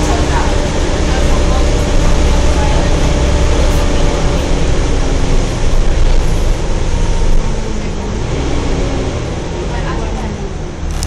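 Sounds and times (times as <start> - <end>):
bus engine rumble with whine: 0.0 - 11.0.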